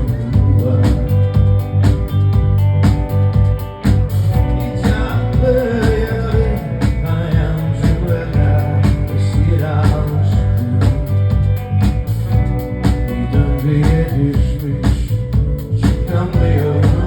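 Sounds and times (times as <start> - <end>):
drums steady beat: 0.0 - 17.0
live rock band playing: 0.0 - 17.0.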